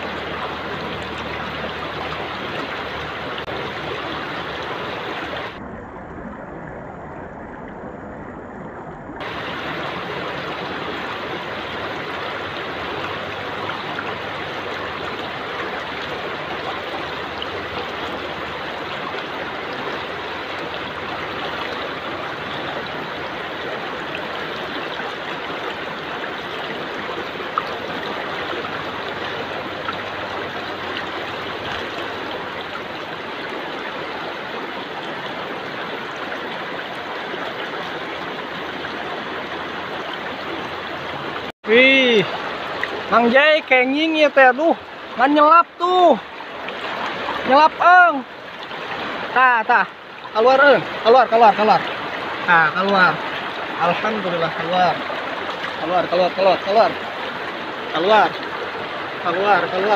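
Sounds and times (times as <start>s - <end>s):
small stream flowing: 0.0s - 59.9s.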